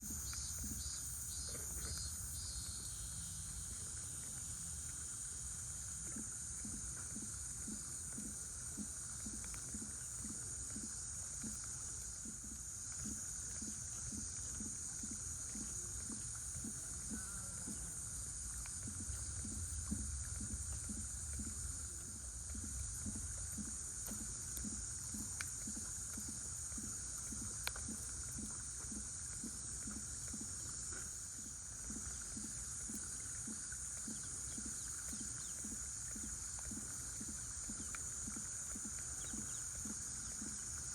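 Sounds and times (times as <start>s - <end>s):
cicadas droning: 0.0s - 40.9s
insect chorus: 0.0s - 40.9s
soft low pulse: 5.6s - 40.9s.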